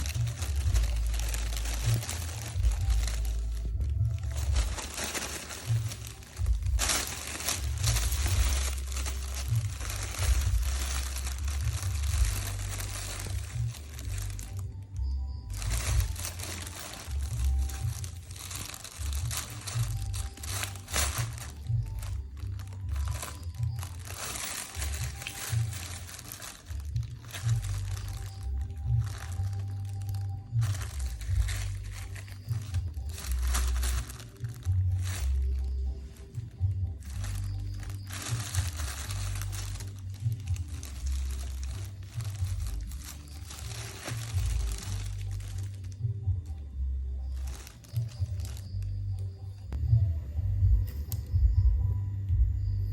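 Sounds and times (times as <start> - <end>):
plastic bag crinkling: 0.0 - 49.8.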